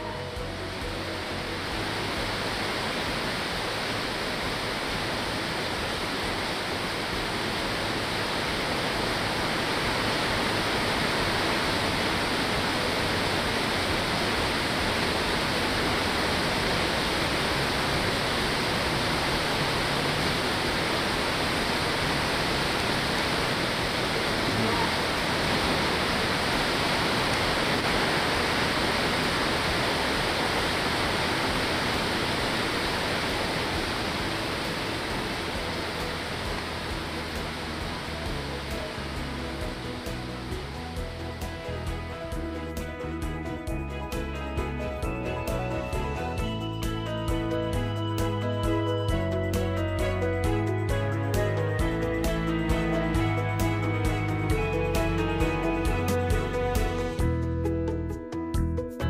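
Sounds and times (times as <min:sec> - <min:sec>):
steady rain hiss: 0:00.0 - 0:57.3.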